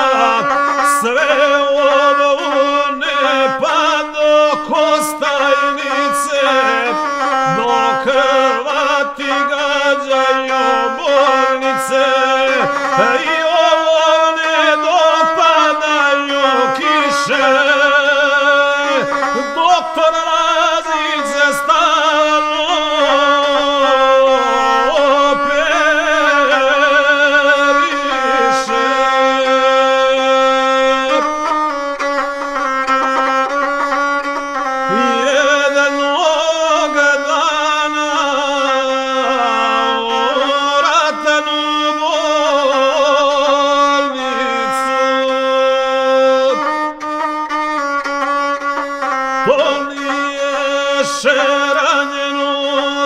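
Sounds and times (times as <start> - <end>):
bowed folk fiddle melody: 0.0 - 53.0
man singing: 0.0 - 53.0.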